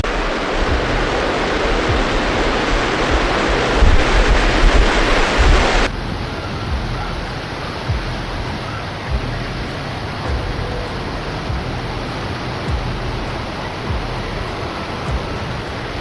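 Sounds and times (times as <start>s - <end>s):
floodwater rushing and roaring: 0.0s - 16.0s.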